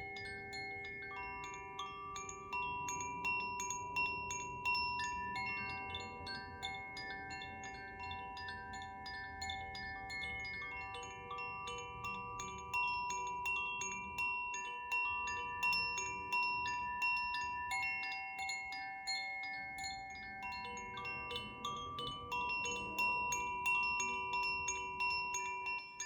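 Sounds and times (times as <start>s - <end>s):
chimes tinkling: 0.0s - 26.0s
crystal singing bowl tone: 0.0s - 26.0s.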